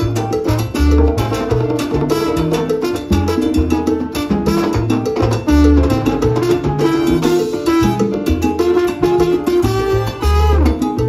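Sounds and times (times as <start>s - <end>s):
salsa band playing: 0.0s - 11.0s.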